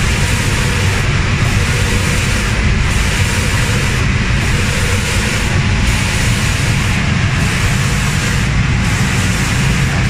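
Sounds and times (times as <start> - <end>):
low machine hum: 0.0 - 10.0
spray guns hissing: 0.0 - 10.0.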